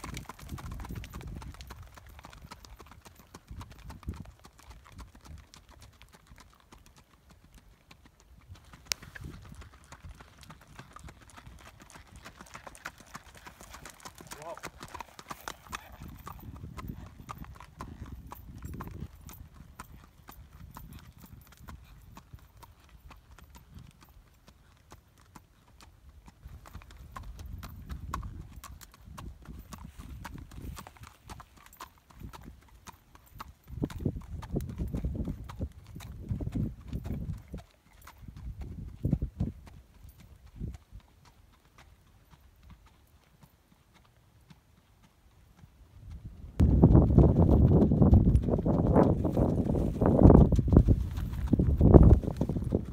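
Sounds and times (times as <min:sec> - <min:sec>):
hooves clip-clopping on gravel: 0:00.0 - 0:52.9.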